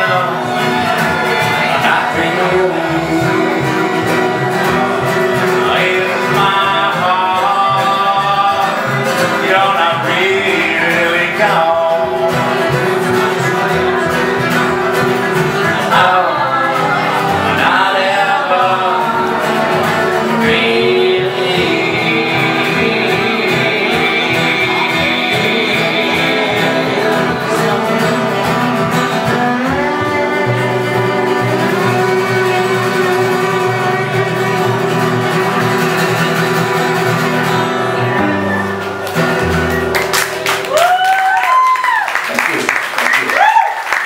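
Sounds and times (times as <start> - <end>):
man singing: 0.0 - 38.8
fiddle: 0.0 - 40.0
upright bass: 0.0 - 41.4
acoustic guitar: 0.0 - 44.0.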